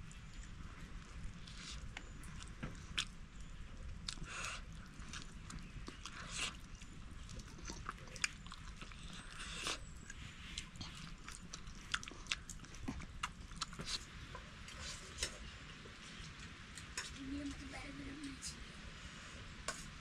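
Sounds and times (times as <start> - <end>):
chewing crunches and wet clicks: 0.0 - 17.7.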